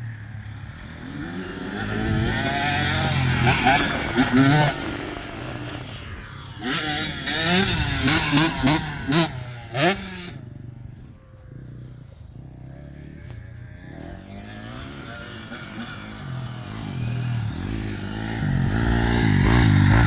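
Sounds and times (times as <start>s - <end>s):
dirt bike engine revving: 0.1s - 10.5s, 11.5s - 20.0s.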